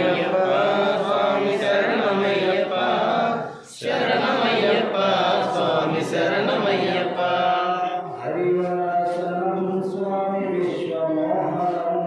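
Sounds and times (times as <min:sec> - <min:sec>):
devotional hymn chanting: 0:00.0 - 0:12.0.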